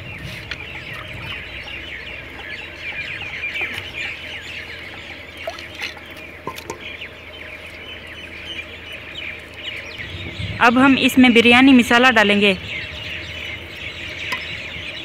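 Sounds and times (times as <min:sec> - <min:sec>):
chickens clucking: 0:00.0 - 0:12.0, 0:12.7 - 0:15.0
chicks peeping: 0:00.0 - 0:15.0.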